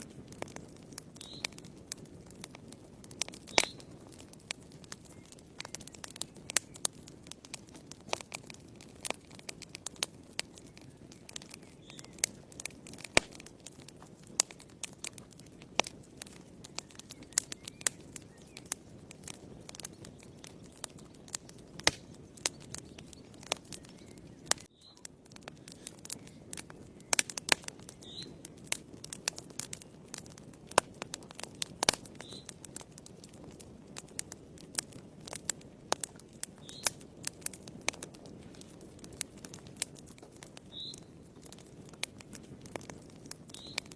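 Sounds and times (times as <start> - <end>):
fire crackling and popping: 0.0 - 43.9
flames rushing: 0.0 - 43.9.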